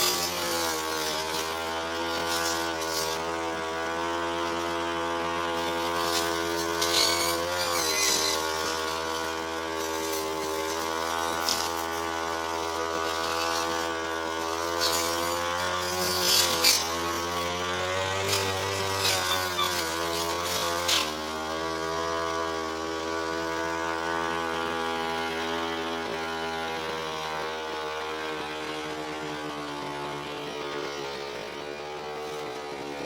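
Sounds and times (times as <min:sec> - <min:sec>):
brush cutter engine running: 0:00.0 - 0:33.0.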